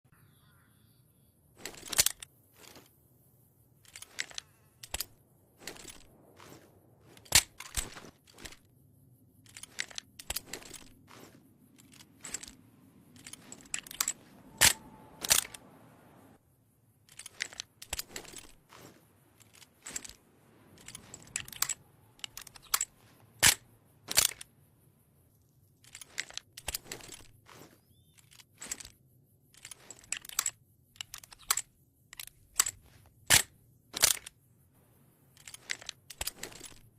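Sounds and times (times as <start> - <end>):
revolver action clicks and snaps: 1.6 - 2.9, 3.8 - 8.7, 9.4 - 15.7, 17.0 - 24.5, 25.7 - 34.4, 35.3 - 36.9.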